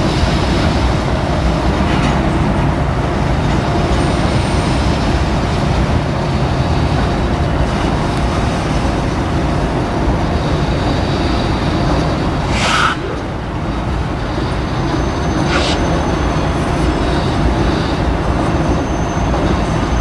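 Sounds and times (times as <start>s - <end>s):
freight train cars rumbling: 0.0s - 20.0s
road traffic noise: 0.0s - 20.0s.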